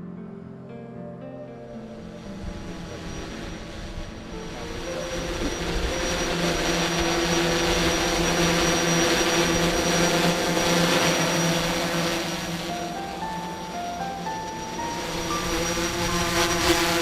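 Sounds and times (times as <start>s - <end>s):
drone propellers whirring: 1.7s - 17.0s.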